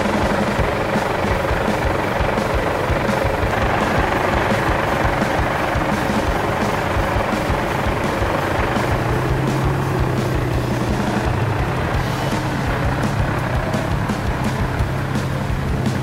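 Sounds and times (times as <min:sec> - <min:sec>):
off-road engine running hard: 0:00.0 - 0:16.0.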